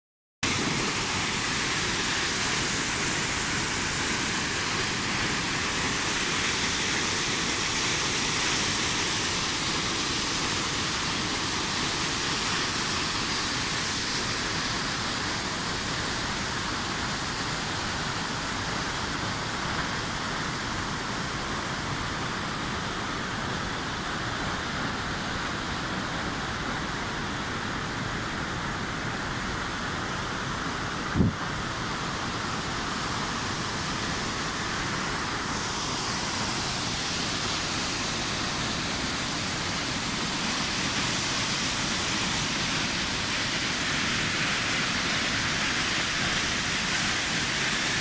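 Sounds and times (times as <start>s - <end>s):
waterfall rushing: 0.4s - 48.0s.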